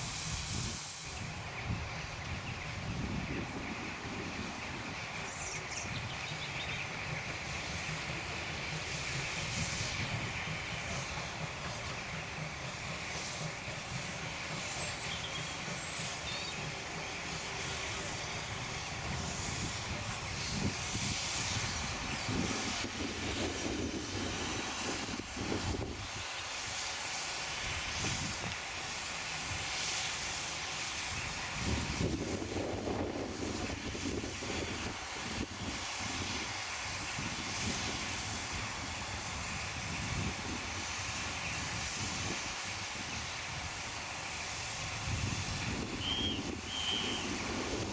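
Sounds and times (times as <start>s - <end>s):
distant steam locomotive: 0.0s - 47.9s
wind gusting on microphone: 0.0s - 47.9s.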